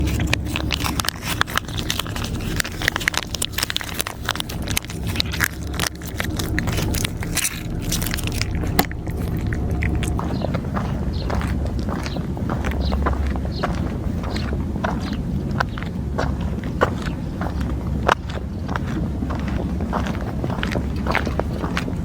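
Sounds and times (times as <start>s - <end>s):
cats crunching dry food: 0.0s - 22.0s
steady low rumble: 0.0s - 22.0s.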